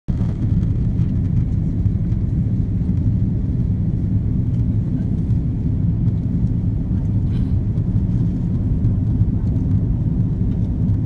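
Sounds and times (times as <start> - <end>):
airplane cabin engine rumble: 0.1 - 11.0.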